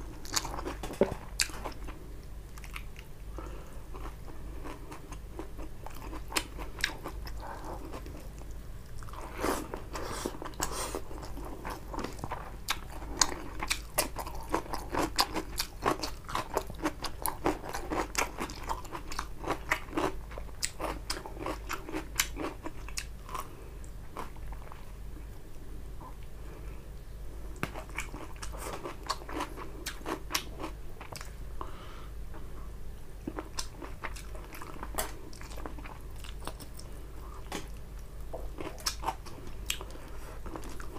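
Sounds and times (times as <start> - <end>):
close chewing and crunching: 0.0 - 24.9, 27.6 - 31.4, 33.2 - 40.9.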